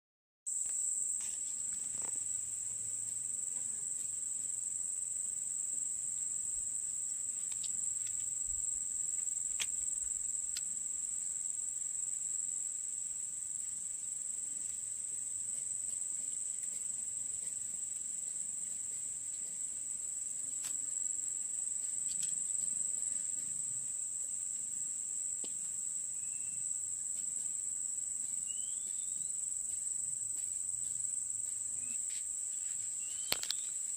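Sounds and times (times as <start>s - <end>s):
insects trilling: 0.5s - 33.9s.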